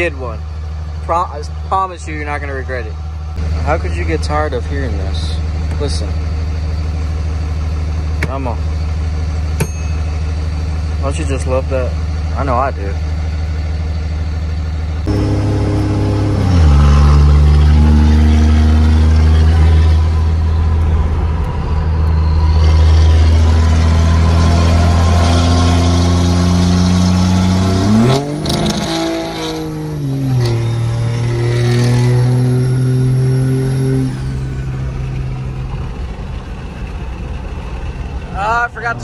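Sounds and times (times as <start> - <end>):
diesel truck engine accelerating: 0.0 - 39.0.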